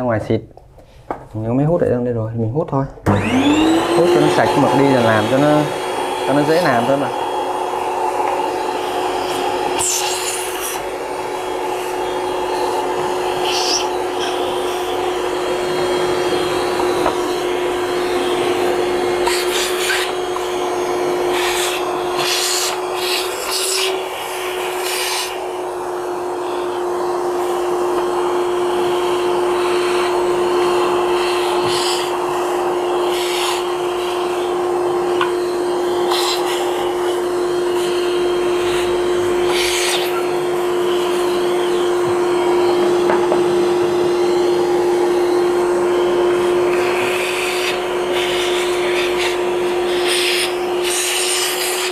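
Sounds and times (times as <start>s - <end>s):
vacuum cleaner running: 3.0s - 51.9s.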